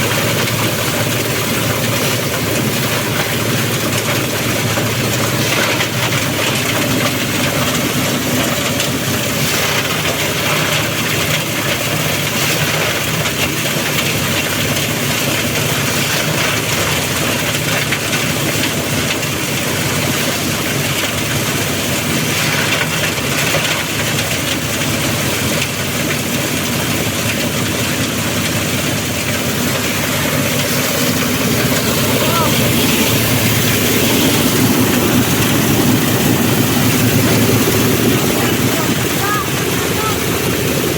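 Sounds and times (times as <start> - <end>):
shredder machine shredding leaves: 0.0 - 40.9.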